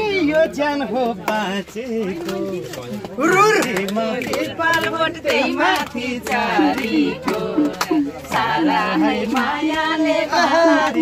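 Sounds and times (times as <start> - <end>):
hand claps: 1.0 - 1.6, 2.2 - 11.0.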